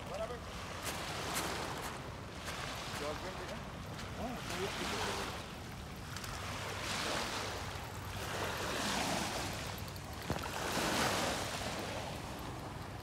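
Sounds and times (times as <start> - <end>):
small waves washing on pebbles: 0.0 - 13.0.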